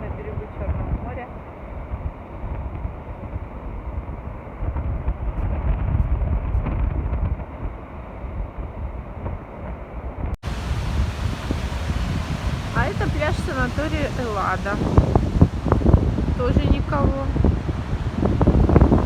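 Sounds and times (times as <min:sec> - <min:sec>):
rough surf: 0:00.0 - 0:19.0
wind buffeting microphone: 0:00.0 - 0:19.0.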